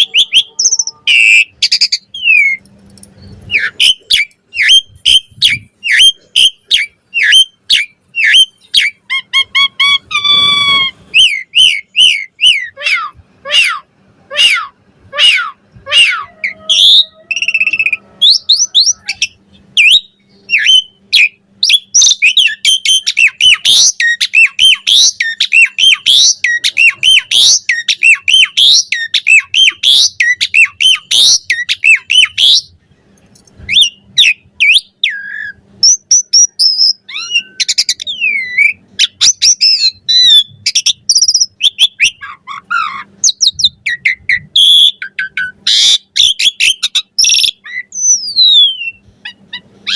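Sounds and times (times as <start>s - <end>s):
starling singing: 0.0s - 32.8s, 33.7s - 49.9s.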